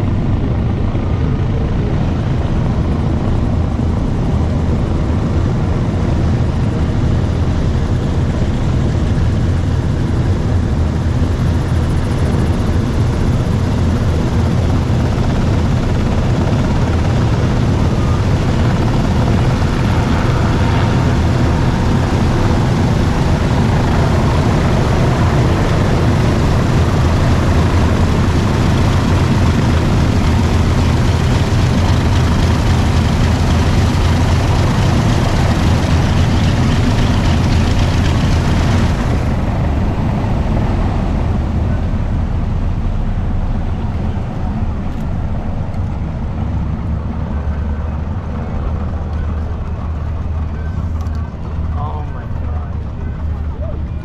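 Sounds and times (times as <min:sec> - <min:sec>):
deep propeller engine drone: 0:00.0 - 0:54.0.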